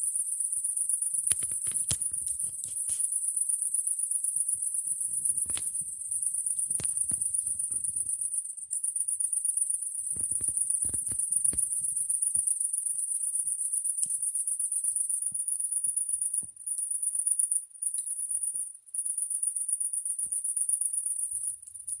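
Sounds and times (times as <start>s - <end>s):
cricket chirring: 0.0s - 22.0s.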